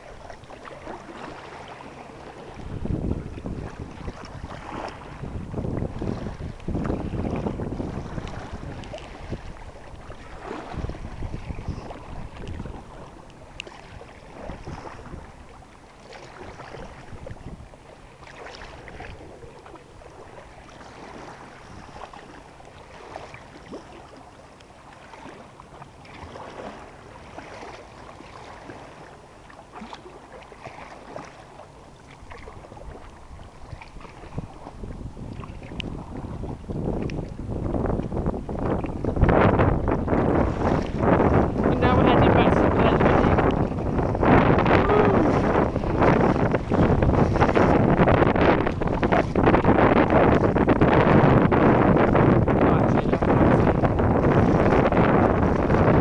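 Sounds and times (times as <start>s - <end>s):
paddle strokes splashing: 0.0s - 56.0s
water sloshing: 0.0s - 56.0s
wind buffeting microphone: 0.0s - 56.0s.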